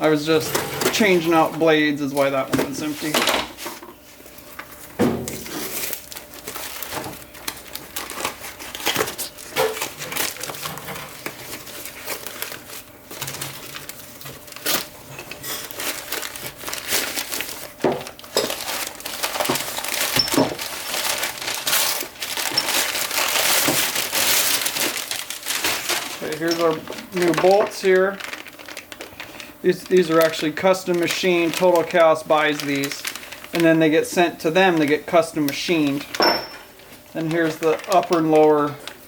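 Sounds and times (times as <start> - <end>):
packing material crinkling: 0.0 - 39.0.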